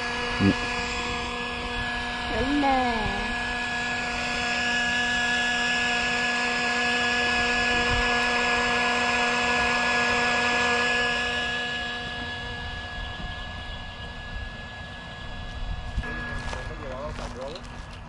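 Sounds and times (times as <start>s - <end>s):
bubble machine fan whine: 0.0s - 18.0s.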